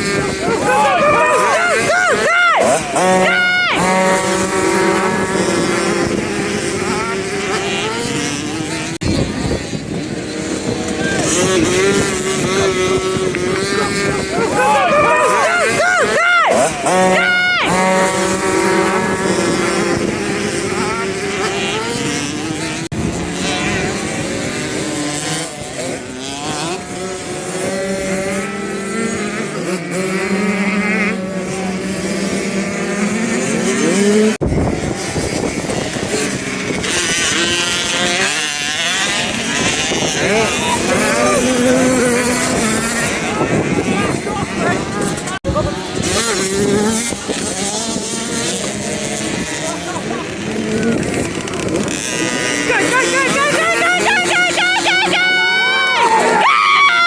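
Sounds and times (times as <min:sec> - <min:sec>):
motocross bike engine: 0:00.0 - 0:57.0.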